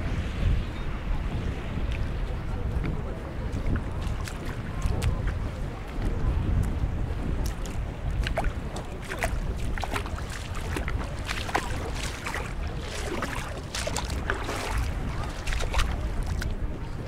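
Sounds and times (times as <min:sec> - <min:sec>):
steady low rumble: 0:00.0 - 0:17.0
sea water splashing on rocks: 0:02.7 - 0:17.0.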